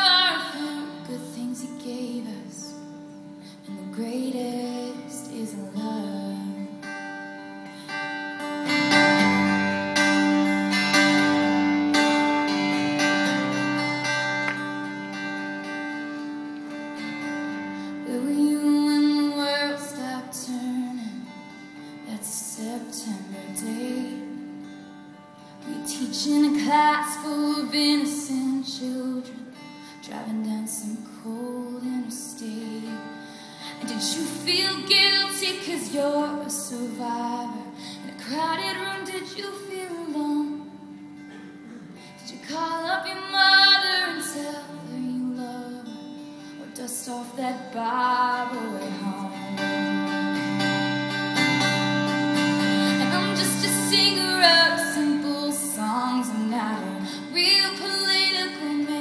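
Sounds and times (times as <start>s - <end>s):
acoustic guitar: 0.0s - 59.0s
woman singing country ballad: 0.0s - 59.0s.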